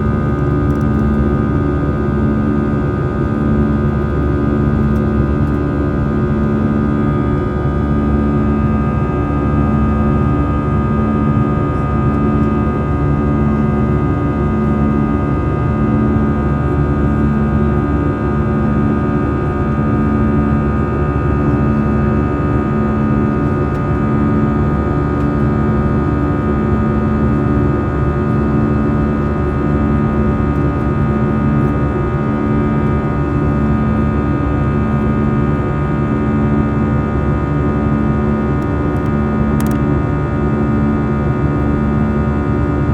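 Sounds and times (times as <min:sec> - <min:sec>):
jet engine and airflow drone: 0:00.0 - 0:42.9
pulsing low hum: 0:00.0 - 0:42.9.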